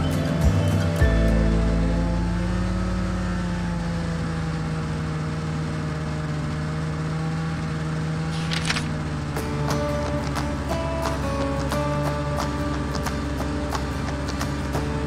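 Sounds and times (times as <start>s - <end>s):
snowmobile engine running: 0.1s - 15.0s.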